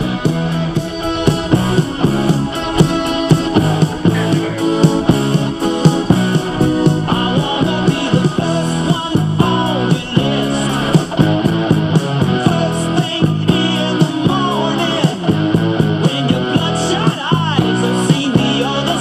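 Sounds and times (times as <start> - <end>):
rock music from boombox: 0.0 - 19.0.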